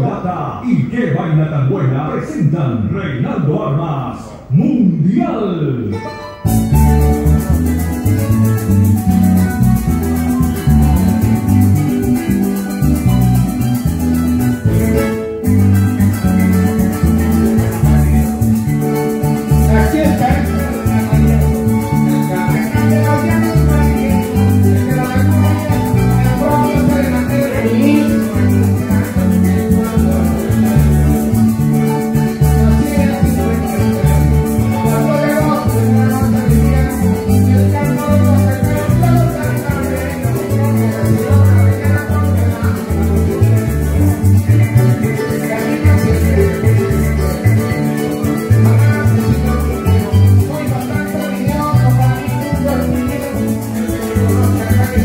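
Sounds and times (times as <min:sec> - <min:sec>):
bass line: 0:00.0 - 0:55.0
plucked strings: 0:05.8 - 0:55.0
harp playing: 0:05.9 - 0:55.0
maracas: 0:05.9 - 0:55.0.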